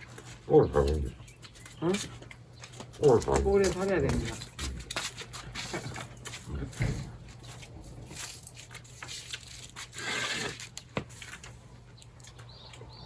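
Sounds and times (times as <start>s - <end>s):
people eating at a table: 0.0s - 13.0s.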